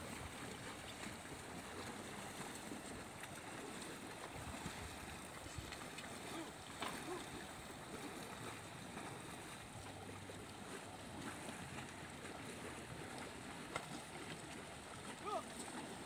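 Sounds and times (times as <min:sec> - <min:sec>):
water noise: 0:00.0 - 0:16.0
wind: 0:00.0 - 0:16.0.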